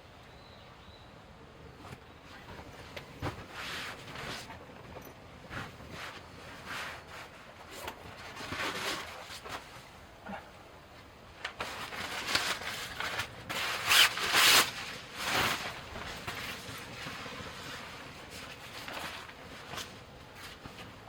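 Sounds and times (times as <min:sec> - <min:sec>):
rustling and rubbing: 0:01.7 - 0:10.0, 0:11.4 - 0:21.0.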